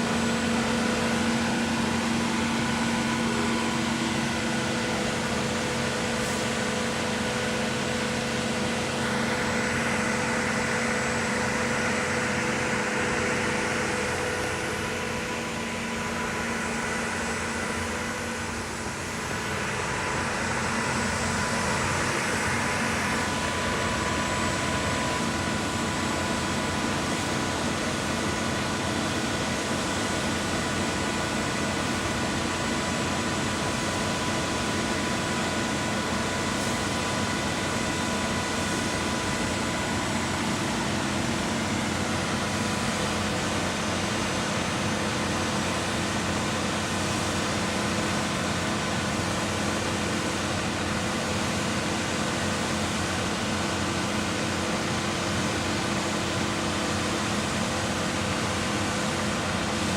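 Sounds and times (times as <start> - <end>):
concrete pump machinery drone: 0.0 - 59.9.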